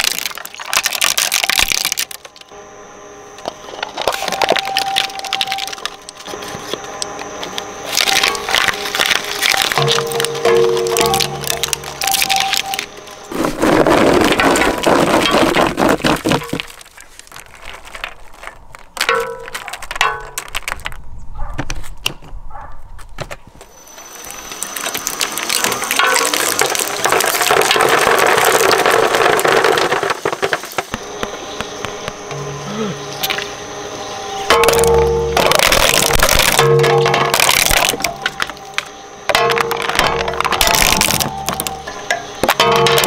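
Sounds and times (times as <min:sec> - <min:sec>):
shredder crunching plastic: 0:00.0 - 0:02.5, 0:03.4 - 0:21.0, 0:24.0 - 0:32.3, 0:33.2 - 0:33.5, 0:34.5 - 0:43.0.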